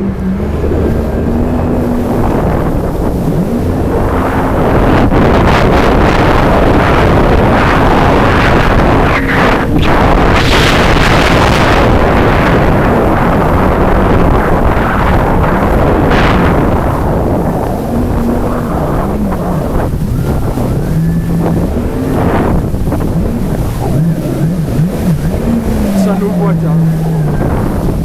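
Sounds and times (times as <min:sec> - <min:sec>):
jet ski engine running: 0:00.0 - 0:28.0
wind noise on microphone: 0:00.0 - 0:28.0.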